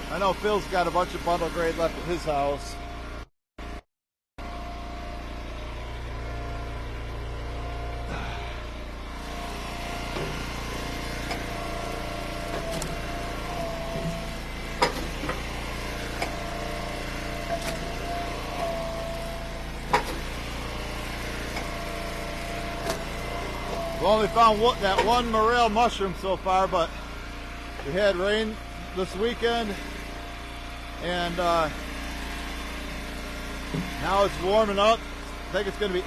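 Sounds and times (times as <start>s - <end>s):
wood splitter engine running: 0.0s - 3.8s, 4.4s - 36.0s
steady whining tone: 4.5s - 36.0s.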